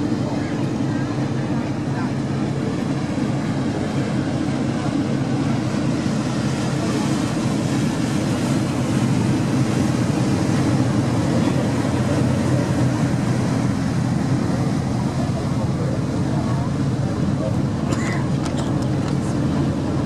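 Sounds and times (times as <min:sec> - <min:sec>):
ferry engine drone: 0:00.0 - 0:20.0.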